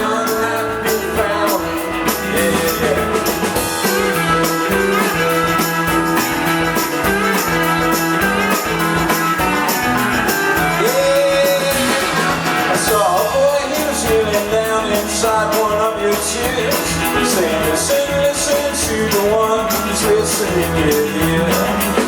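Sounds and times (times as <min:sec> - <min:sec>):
drums keeping a steady beat: 0:00.0 - 0:22.0
electric guitars: 0:00.0 - 0:22.0.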